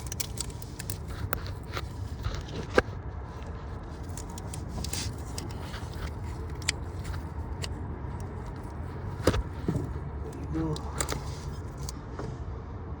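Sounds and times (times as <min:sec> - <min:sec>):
hand tools clicking and scraping: 0:00.0 - 0:11.9
low background rumble: 0:00.0 - 0:13.0.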